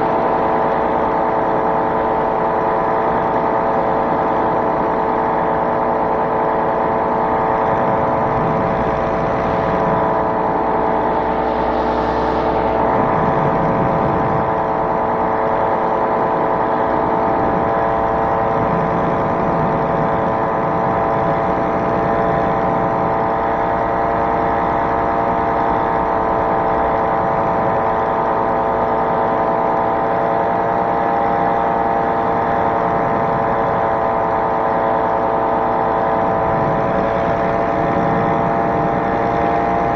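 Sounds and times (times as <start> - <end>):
light aircraft engine: 0.0 - 39.9.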